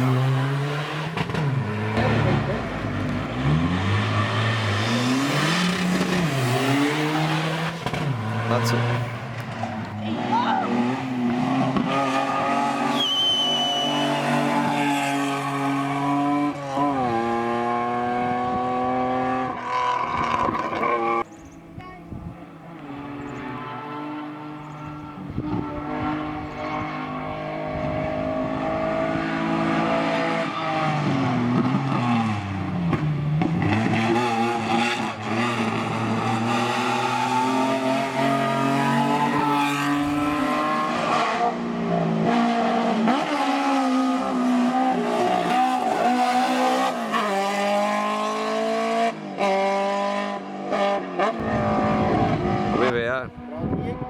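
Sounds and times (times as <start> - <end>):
race car engine at high revs: 0.0 - 21.5, 22.4 - 54.0.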